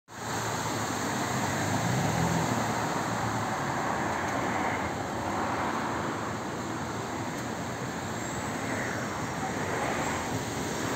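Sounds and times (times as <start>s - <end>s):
traffic rushing on road: 0.1s - 10.9s
car engine humming past: 0.2s - 10.9s.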